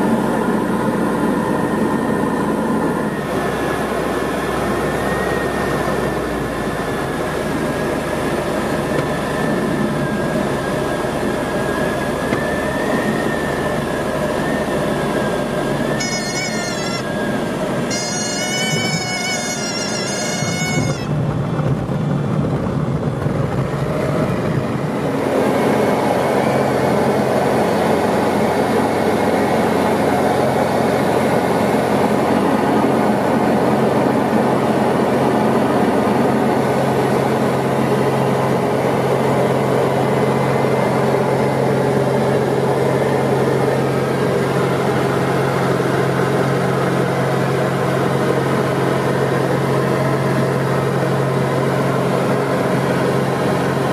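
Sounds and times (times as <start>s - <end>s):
light aircraft engine drone: 0.0s - 53.9s.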